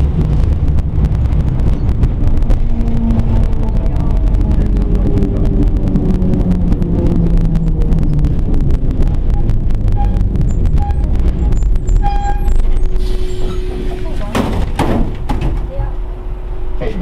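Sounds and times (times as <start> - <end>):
hum shifting in pitch: 0.0 - 14.3
tram rumbling: 0.0 - 17.0.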